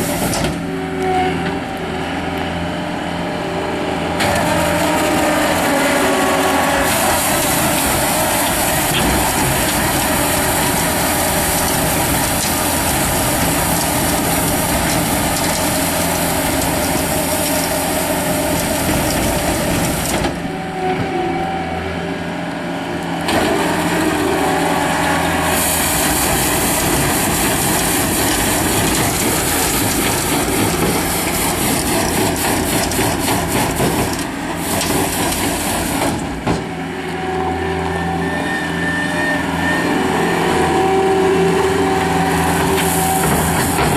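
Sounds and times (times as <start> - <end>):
loader engine running: 0.0 - 43.9.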